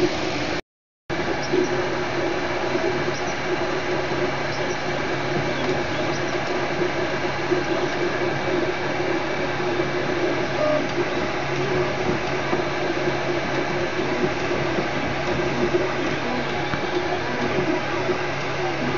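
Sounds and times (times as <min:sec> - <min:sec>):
cooling fan hum: 0:00.0 - 0:18.9
stepper motors whirring: 0:01.3 - 0:18.9.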